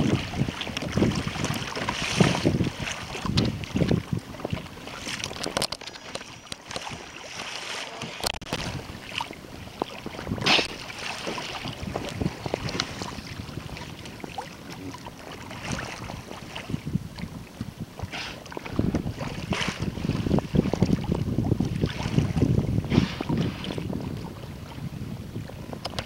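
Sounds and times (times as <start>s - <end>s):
wind buffeting microphone: 0.0s - 7.1s, 8.4s - 26.0s
water lapping around a kayak: 0.0s - 26.0s.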